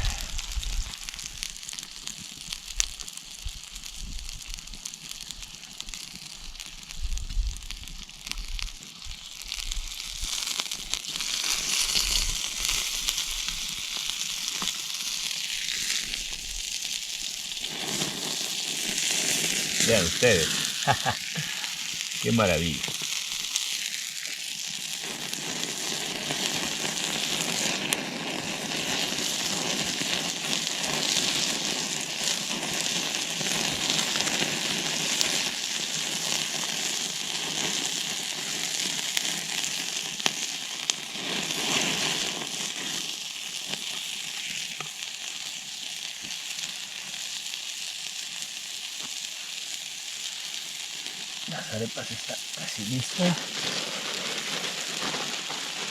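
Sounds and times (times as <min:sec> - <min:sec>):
campfire crackling pops: 0:00.0 - 0:55.9
food sizzling in a pan: 0:00.0 - 0:55.9.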